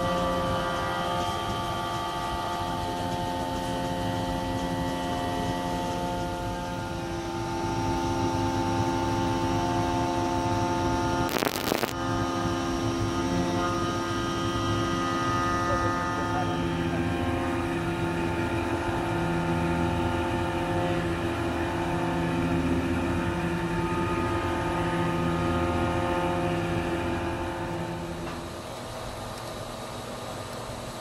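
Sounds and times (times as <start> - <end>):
milling spindle humming: 0.0 - 29.7.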